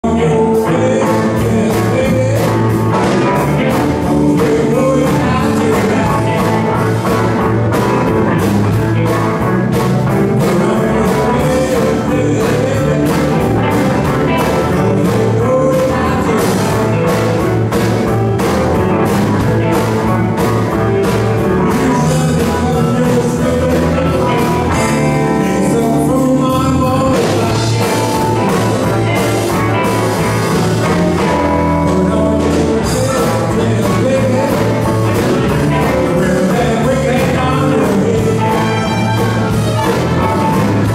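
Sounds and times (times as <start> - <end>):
drum kit beat: 0.0 - 40.9
electric bass: 0.0 - 40.9
electric guitars: 0.0 - 40.9
keyboard: 0.0 - 40.9.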